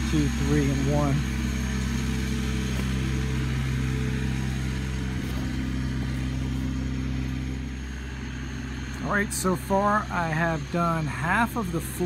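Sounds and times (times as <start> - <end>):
pressure washer engine humming: 0.0 - 12.0.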